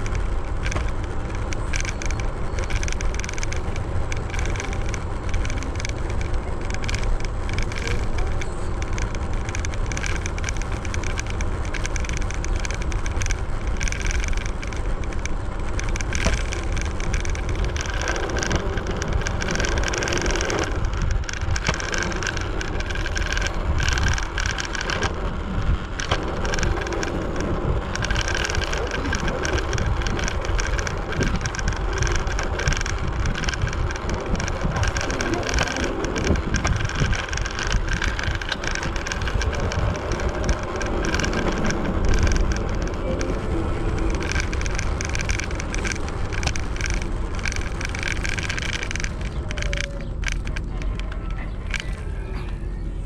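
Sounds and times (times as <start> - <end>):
electric scooter rolling rumble: 0.0 - 53.0.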